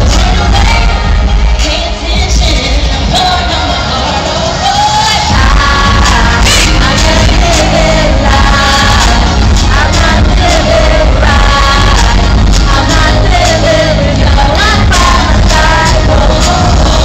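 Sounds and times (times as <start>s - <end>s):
heavy bass: 0.0s - 17.0s
live pop music over sound system: 0.0s - 17.0s.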